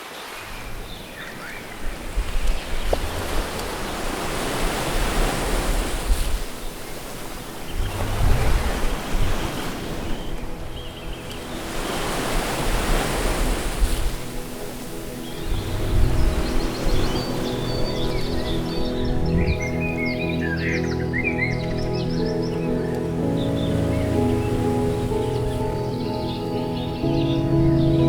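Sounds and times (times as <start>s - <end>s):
ocean surf breaking: 0.0s - 28.0s
faint music: 0.4s - 28.0s.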